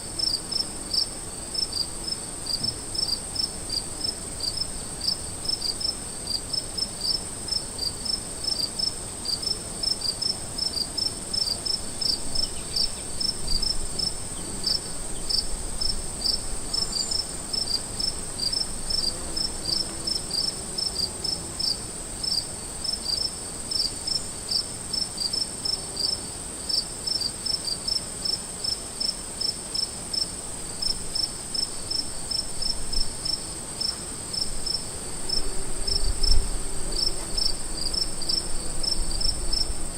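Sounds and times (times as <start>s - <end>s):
crickets chirping: 0.2s - 39.9s.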